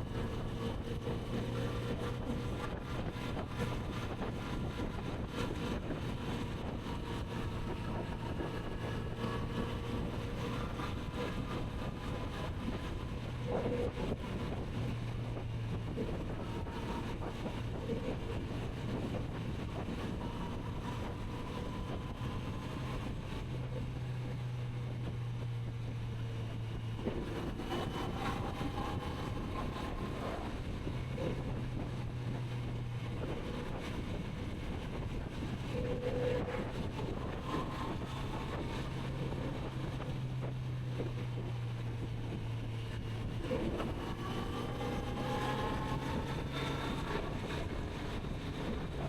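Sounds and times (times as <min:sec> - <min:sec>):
motorcycle engine cruising: 0:00.0 - 0:49.0
wind noise on microphone: 0:00.0 - 0:49.0.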